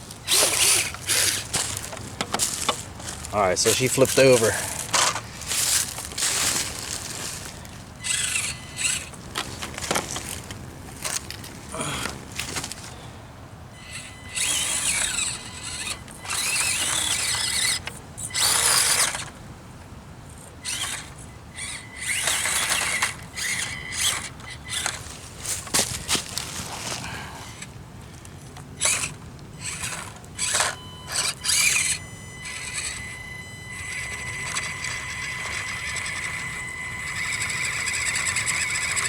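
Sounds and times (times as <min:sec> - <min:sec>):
small electric motor whining: 0:00.0 - 0:13.0, 0:13.7 - 0:19.4, 0:20.3 - 0:27.8, 0:28.7 - 0:39.0.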